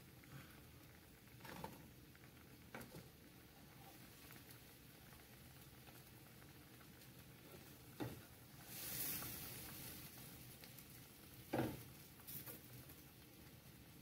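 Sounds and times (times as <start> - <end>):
faint sizzle: 0.0 - 14.0.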